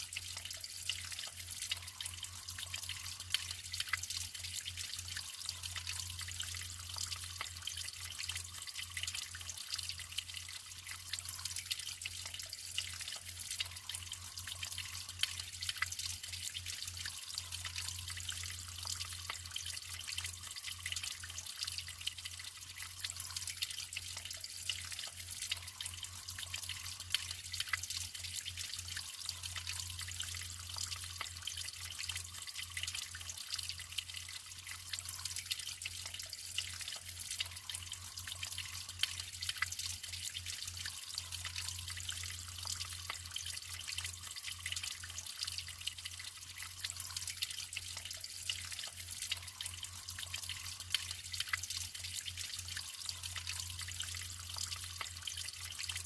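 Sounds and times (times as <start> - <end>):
small water drips: 0.0 - 56.0
water trickling and splashing: 0.0 - 56.0.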